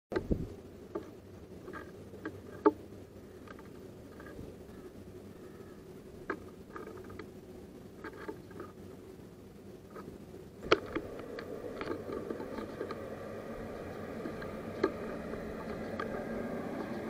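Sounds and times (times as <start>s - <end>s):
low background hum: 0.1s - 17.0s.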